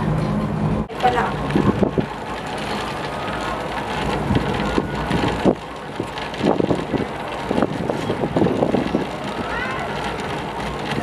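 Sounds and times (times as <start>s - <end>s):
cable car rumble and wind: 0.0s - 11.0s.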